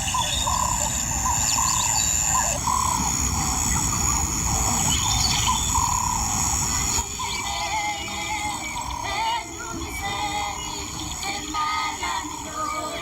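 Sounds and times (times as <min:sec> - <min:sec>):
bird calling: 0:00.0 - 0:13.0
insect drone: 0:00.0 - 0:13.0.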